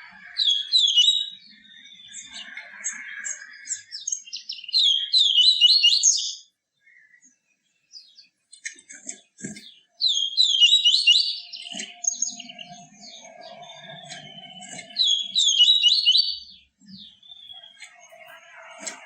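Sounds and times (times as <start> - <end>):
bird twittering song: 0.0 - 19.0.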